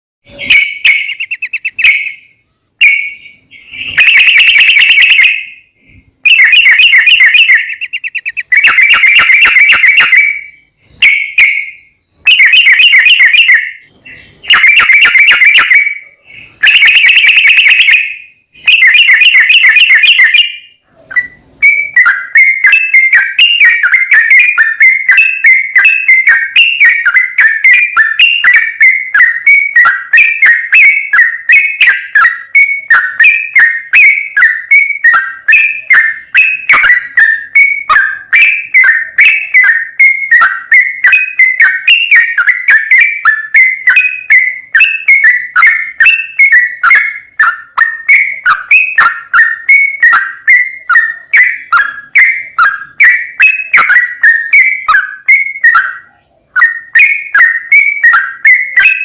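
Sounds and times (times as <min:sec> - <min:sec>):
bird singing trilled phrases: 0:00.2 - 0:59.0.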